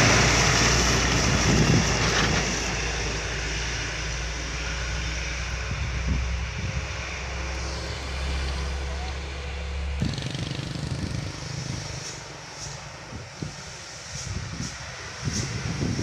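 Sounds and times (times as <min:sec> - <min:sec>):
heavy vehicle engine rumbling: 0:00.0 - 0:16.0
road noise: 0:00.0 - 0:16.0.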